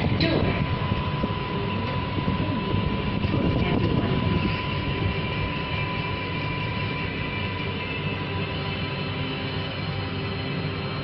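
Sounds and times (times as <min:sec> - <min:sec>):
high whine: 0:00.0 - 0:11.0
train rumbling on rails: 0:00.0 - 0:11.0.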